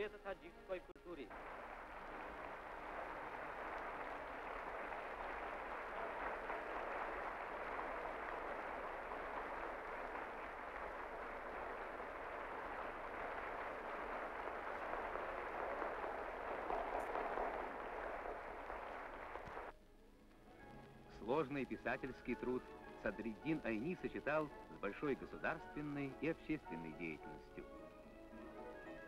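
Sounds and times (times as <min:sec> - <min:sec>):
audience applauding: 0:01.2 - 0:19.8, 0:21.2 - 0:27.8.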